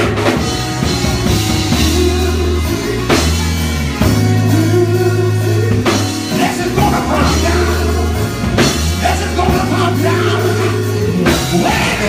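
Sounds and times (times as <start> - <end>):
gospel band playing: 0.0 - 12.0.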